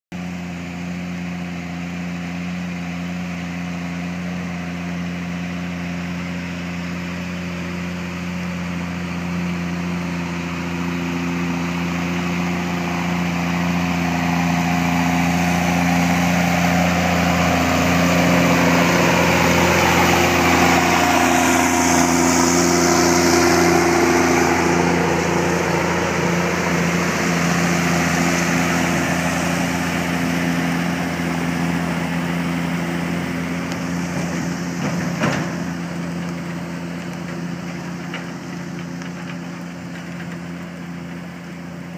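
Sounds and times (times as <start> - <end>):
heavy diesel engines under load: 0.1 - 41.9.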